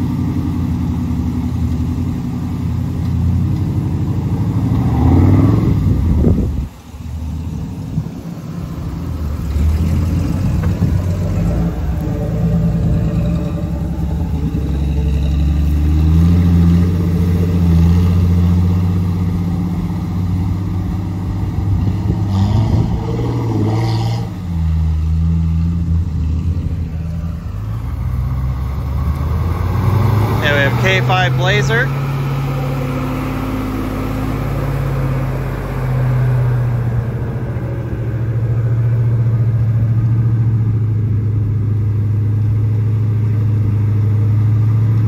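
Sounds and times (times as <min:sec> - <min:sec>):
off-road engine revving: 0:00.0 - 0:45.0.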